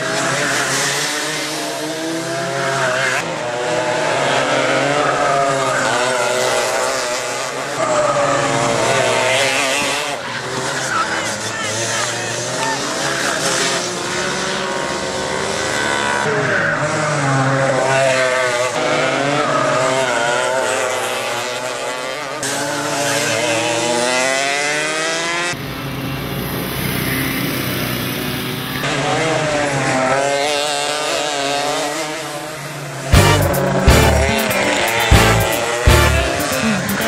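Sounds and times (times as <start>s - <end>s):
go-kart engines revving: 0.0s - 37.0s.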